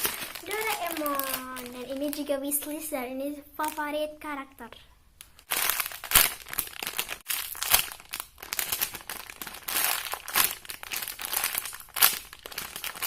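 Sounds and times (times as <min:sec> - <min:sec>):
plastic packaging crinkling: 0:00.0 - 0:03.0, 0:03.6 - 0:03.9, 0:05.2 - 0:13.0.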